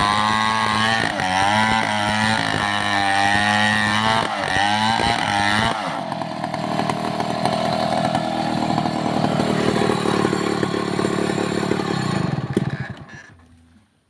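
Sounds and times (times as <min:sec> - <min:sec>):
chainsaw engine running fast: 0:00.0 - 0:13.4.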